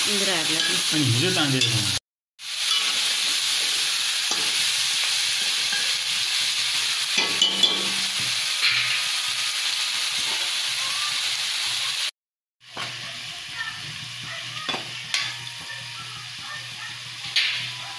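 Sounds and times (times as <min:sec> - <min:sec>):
meat sizzling in a pan: 0:00.0 - 0:17.9.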